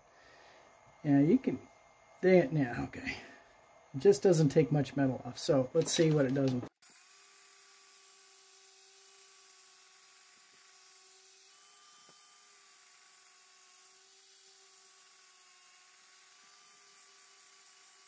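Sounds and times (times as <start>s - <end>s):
power tool whining: 0.2s - 18.0s.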